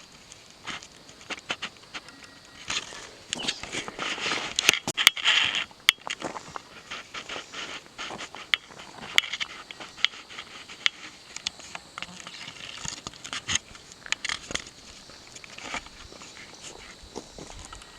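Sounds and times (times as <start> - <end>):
footsteps on rocky trail: 0.6 - 17.9.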